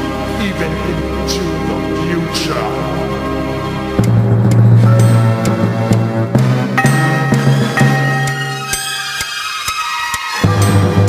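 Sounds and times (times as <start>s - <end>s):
background music held tones: 0.0s - 11.0s.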